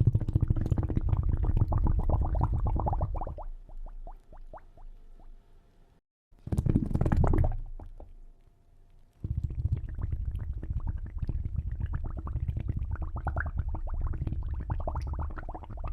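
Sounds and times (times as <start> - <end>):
bubbling in water: 0.0 - 4.8, 6.5 - 8.1, 9.2 - 15.9
stream of small bubbles: 0.0 - 5.4, 6.4 - 8.2, 9.2 - 15.9.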